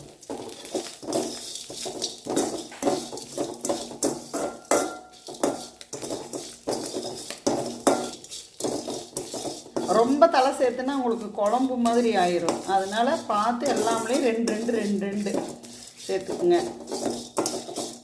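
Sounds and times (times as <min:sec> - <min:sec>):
spoon scraping a pan: 0:00.0 - 0:18.0.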